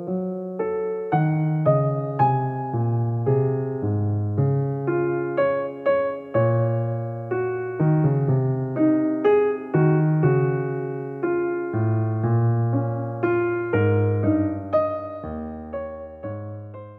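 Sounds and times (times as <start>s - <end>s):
soft piano melody: 0.0s - 16.9s.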